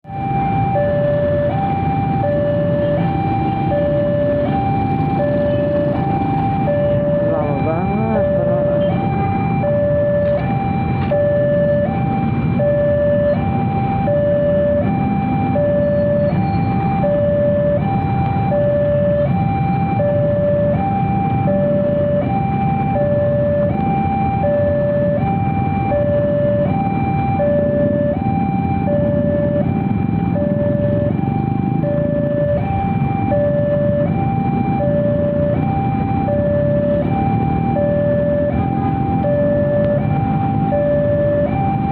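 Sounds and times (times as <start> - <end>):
passing train rumble: 0.1 - 41.9
two-tone electronic warning alarm: 0.1 - 41.9.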